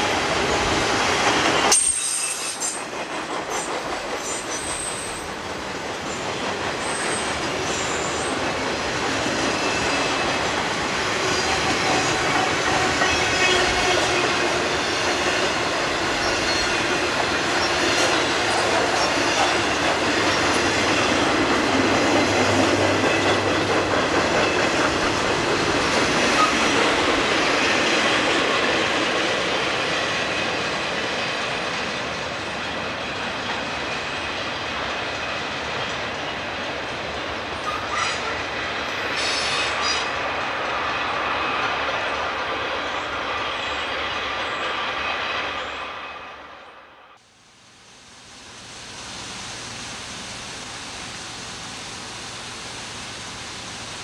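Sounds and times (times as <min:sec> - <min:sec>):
train wheels clattering on rails: 0:00.0 - 0:46.3.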